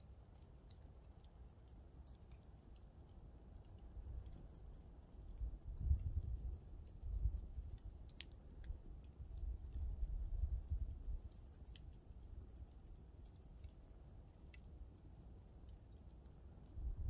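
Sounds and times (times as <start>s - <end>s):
campfire crackling: 0.0s - 17.0s
sharp snaps and pops: 0.0s - 17.0s.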